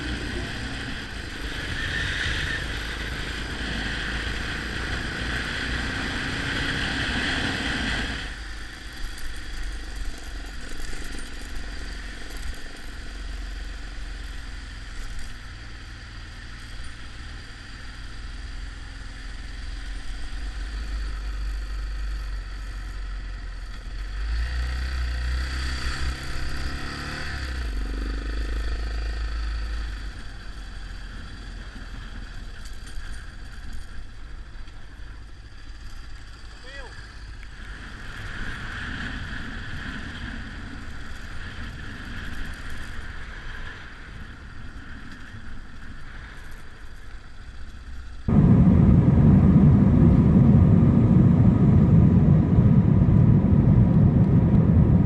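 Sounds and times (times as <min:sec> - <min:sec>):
motorcycle engine rumble: 0:00.0 - 0:24.2, 0:27.6 - 0:55.0
wind and road noise hiss: 0:00.0 - 0:55.0.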